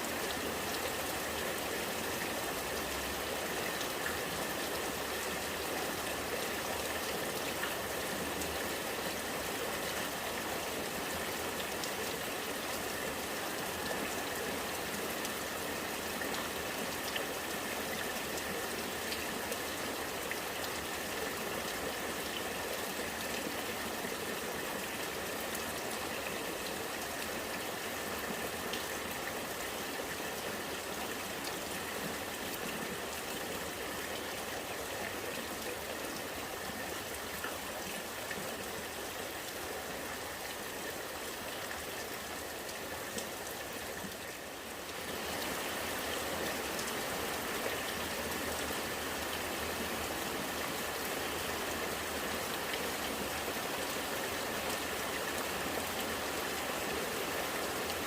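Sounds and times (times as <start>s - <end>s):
rain falling: 0.0s - 58.0s
rainwater running and gurgling: 0.0s - 58.0s.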